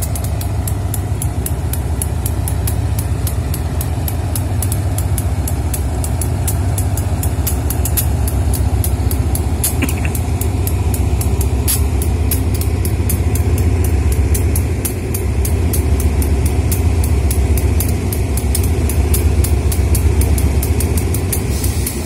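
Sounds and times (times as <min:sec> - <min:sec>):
rapid even high ticking: 0:00.0 - 0:21.5
locomotive engine rumbling: 0:00.0 - 0:22.0.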